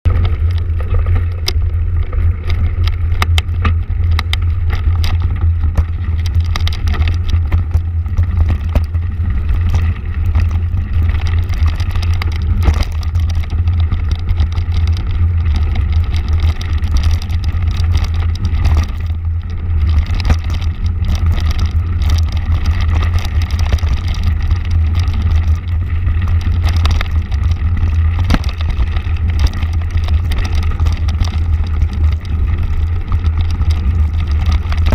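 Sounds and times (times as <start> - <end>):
motorcycle engine rumbling: 0.0 - 34.9.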